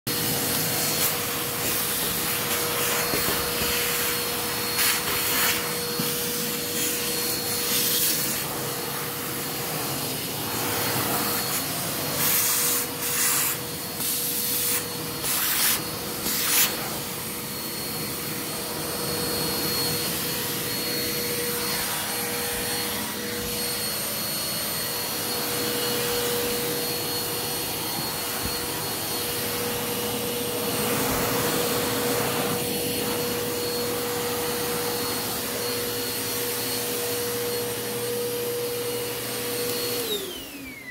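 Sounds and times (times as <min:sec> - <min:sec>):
vacuum cleaner running: 0:00.0 - 0:40.9
vacuum suction rushes: 0:00.1 - 0:40.9.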